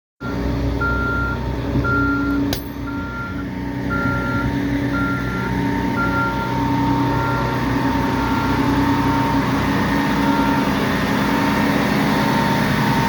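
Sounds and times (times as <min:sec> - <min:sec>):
backup alarm beeping: 0:00.2 - 0:10.8
vehicle engine running: 0:00.2 - 0:13.0.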